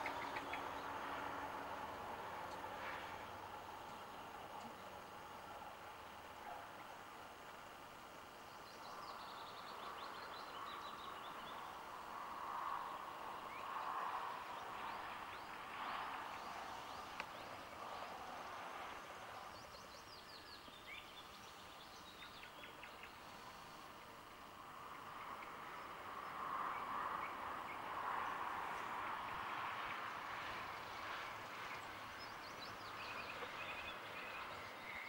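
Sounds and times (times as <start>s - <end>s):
songbirds singing: 0.0s - 7.5s, 8.2s - 35.0s
faint hiss: 0.0s - 35.0s.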